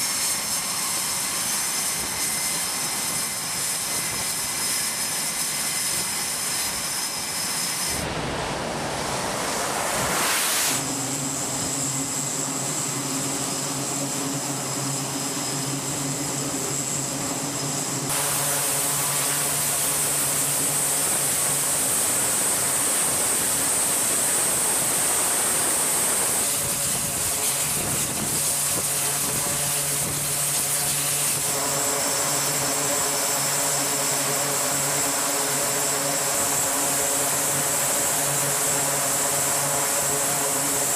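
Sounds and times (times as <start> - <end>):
jet engine hiss: 0.0 - 40.9
propeller engines droning: 0.0 - 40.9.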